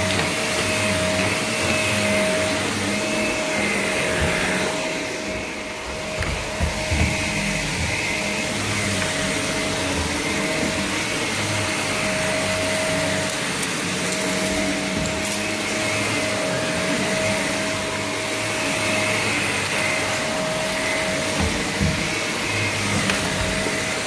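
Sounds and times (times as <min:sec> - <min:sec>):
vacuum cleaner running on carpet: 0:00.0 - 0:24.0.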